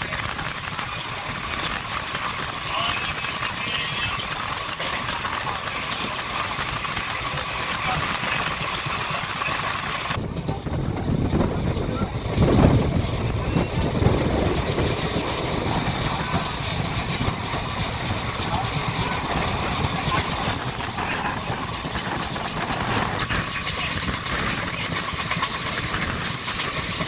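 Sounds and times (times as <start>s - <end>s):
train coach rumbling on track: 0.0s - 27.0s.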